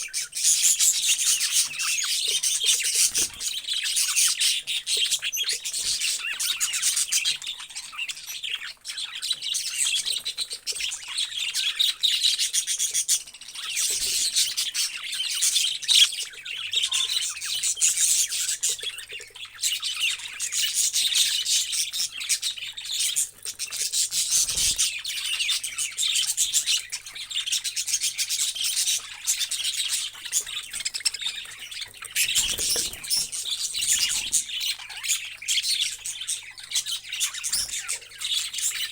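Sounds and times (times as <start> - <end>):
parrots chirping and chattering: 0.0 - 38.9.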